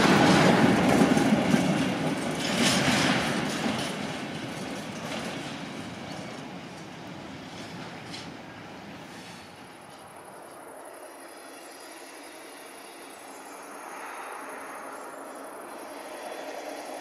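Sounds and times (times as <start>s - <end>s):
distant train rolling: 0.0s - 17.0s
insects chirring: 0.0s - 17.0s.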